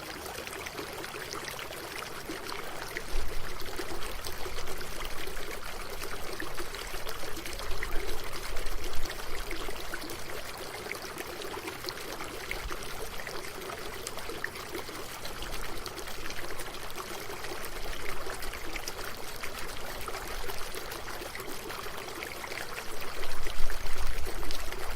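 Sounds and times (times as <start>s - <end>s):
running water flowing: 0.0s - 24.9s.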